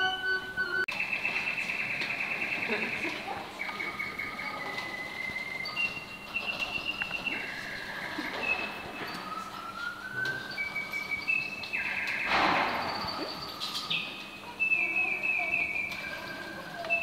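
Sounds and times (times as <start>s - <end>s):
mechanical bird whistle singing: 0.0s - 17.0s.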